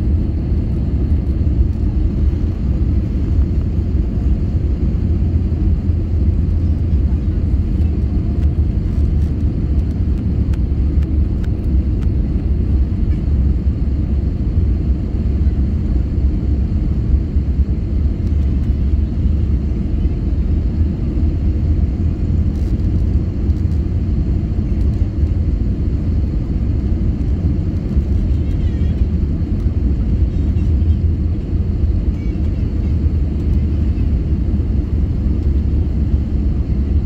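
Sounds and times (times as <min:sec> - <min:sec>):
aircraft cabin rumble: 0:00.0 - 0:37.0.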